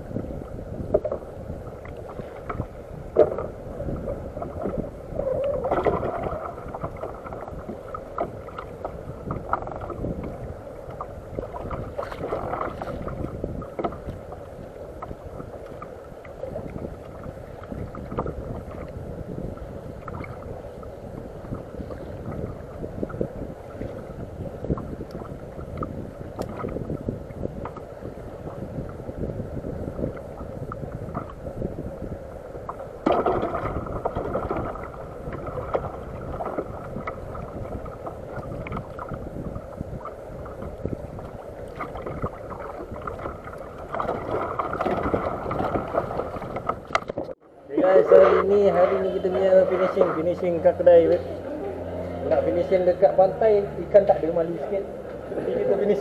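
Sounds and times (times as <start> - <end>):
wind noise on microphone: 0.0 - 55.0
water lapping against kayak hull: 0.0 - 56.0.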